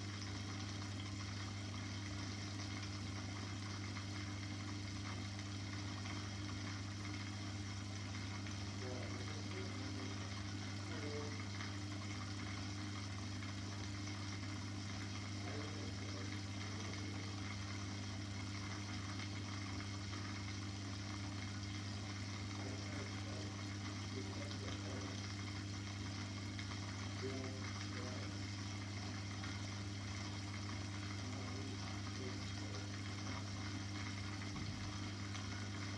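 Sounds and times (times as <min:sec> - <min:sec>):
aquarium pump humming: 0:00.0 - 0:35.9.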